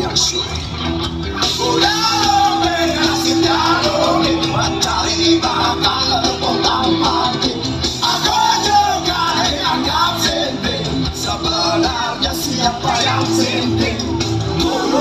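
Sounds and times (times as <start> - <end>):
live rock band playing: 0.0 - 15.0
person singing: 1.4 - 15.0.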